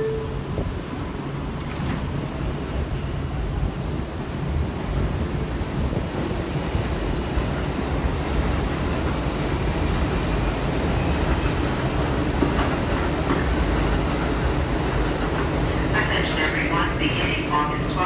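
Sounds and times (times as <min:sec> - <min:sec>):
subway train pulling out: 0:00.0 - 0:18.0.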